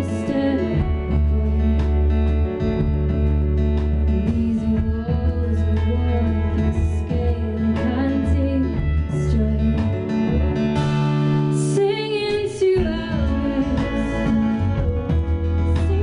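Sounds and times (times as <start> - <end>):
woman singing: 0.0 - 3.0, 4.0 - 16.0
live band playing: 0.0 - 16.0.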